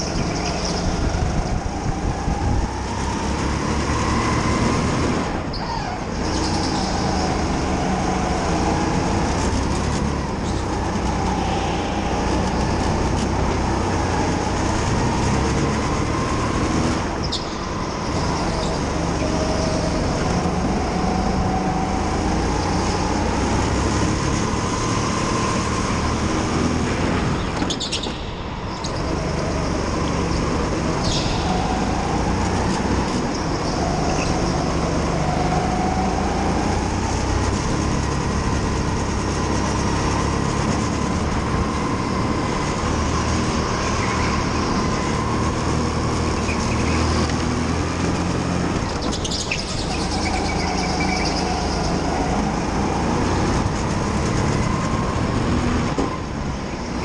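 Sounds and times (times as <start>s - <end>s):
go-kart motor: 0.0s - 57.0s
rumble of tyres and chassis: 0.0s - 57.0s.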